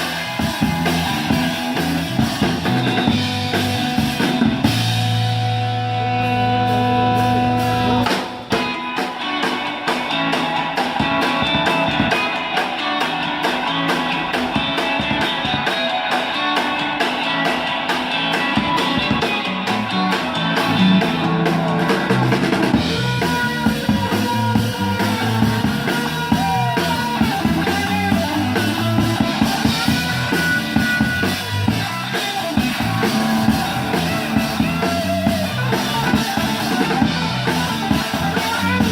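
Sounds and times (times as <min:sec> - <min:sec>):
electric guitar: 0:00.0 - 0:38.9
fast driving drum beat: 0:00.0 - 0:38.9.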